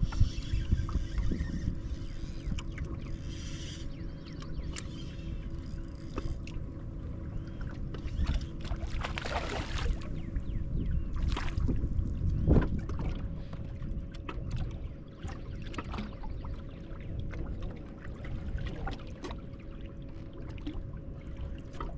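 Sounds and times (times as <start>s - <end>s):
faint steady hum: 0.0s - 21.9s
water lapping at boat hull: 0.0s - 21.9s
wind rumbling on microphone: 0.0s - 21.9s.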